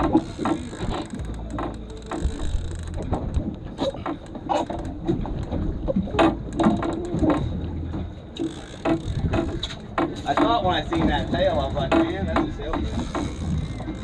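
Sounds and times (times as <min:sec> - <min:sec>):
knocks and clicks: 0:00.0 - 0:14.0
water slapping against hull: 0:00.0 - 0:14.0.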